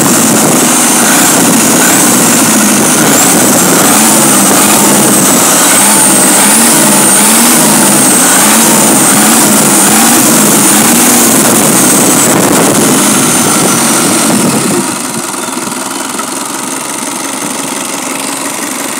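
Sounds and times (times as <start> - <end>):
diesel engine running: 0.0 - 18.9
engine fan turning: 0.0 - 18.9.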